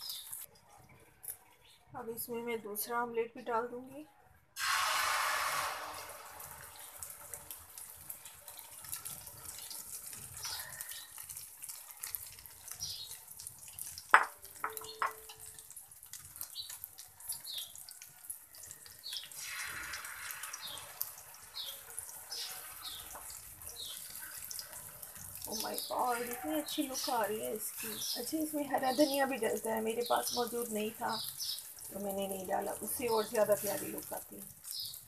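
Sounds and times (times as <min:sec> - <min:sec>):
omelette sizzling in oil: 0:00.0 - 0:00.5, 0:04.6 - 0:35.0.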